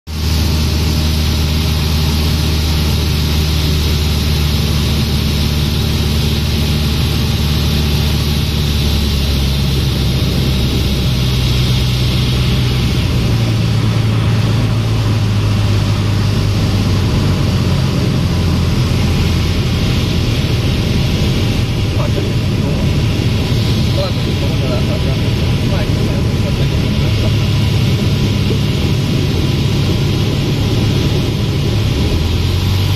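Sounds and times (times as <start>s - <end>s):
airplane engine and propeller droning: 0.1s - 32.9s
wind noise: 0.1s - 32.9s.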